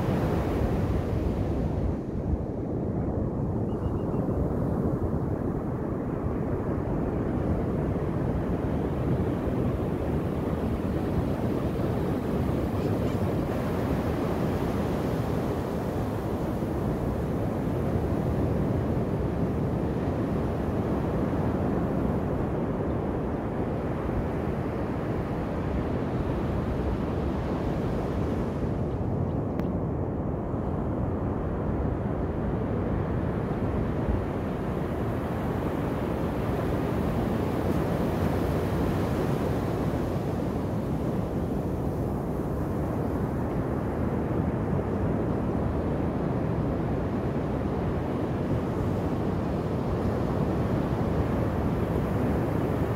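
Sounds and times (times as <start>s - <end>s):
ocean waves breaking on beach: 4.7s - 29.2s, 30.8s - 52.9s.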